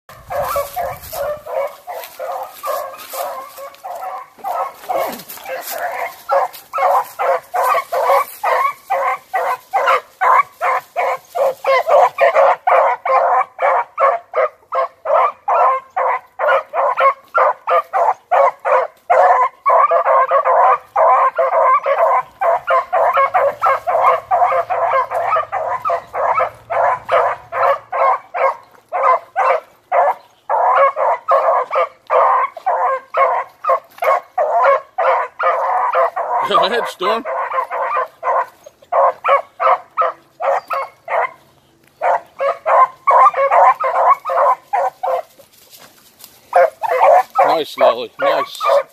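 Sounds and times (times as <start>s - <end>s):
hounds baying: 0.1s - 48.9s.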